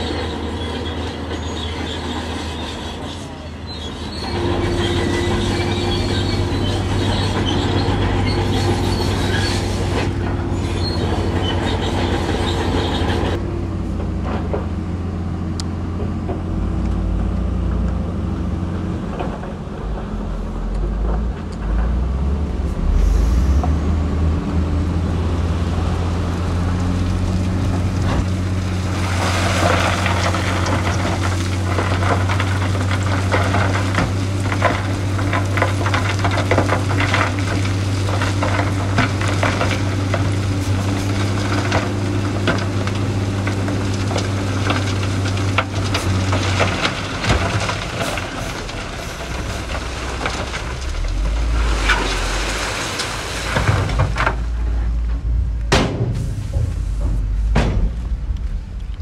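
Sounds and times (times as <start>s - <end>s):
heavy diesel machinery engine drone: 0.0s - 59.0s
rough noisy machinery layer: 0.0s - 59.0s.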